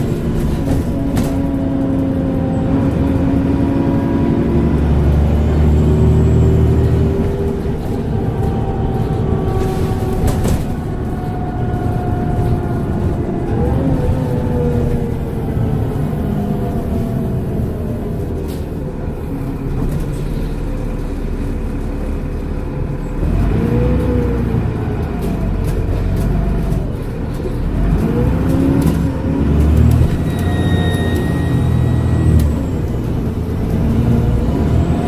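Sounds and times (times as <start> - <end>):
bus engine rumbling: 0.0 - 35.0.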